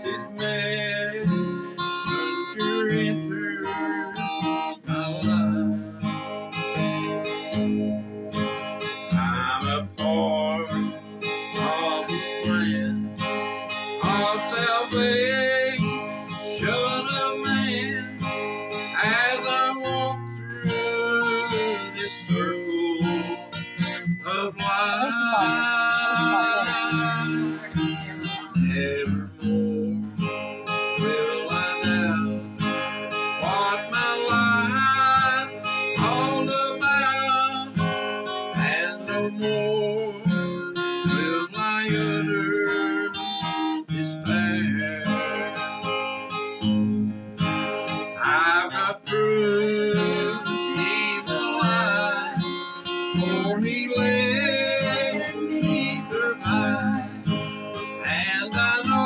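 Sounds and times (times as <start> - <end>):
picked acoustic guitar lead: 0.0 - 59.0
strummed guitar chords: 0.0 - 59.0.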